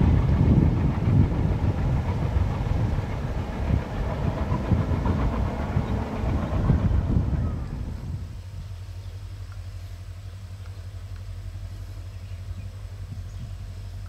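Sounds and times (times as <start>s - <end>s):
distant train rumbling past: 0.0s - 14.0s.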